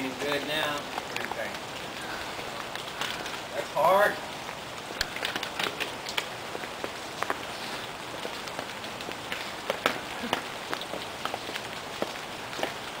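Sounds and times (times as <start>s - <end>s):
drops dripping and tapping: 0.0s - 3.8s, 4.4s - 7.5s, 8.1s - 13.0s
steady rain falling: 0.0s - 13.0s.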